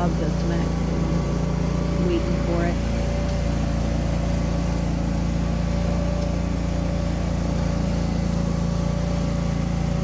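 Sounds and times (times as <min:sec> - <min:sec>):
feed mixer engine droning: 0:00.0 - 0:10.0.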